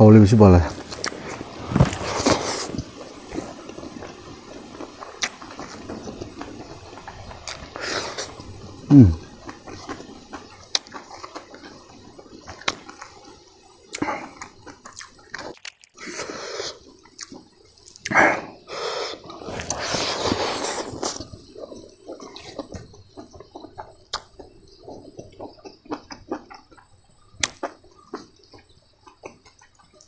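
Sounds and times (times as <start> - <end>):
wet chewing and eating by hand: 0.6 - 30.0.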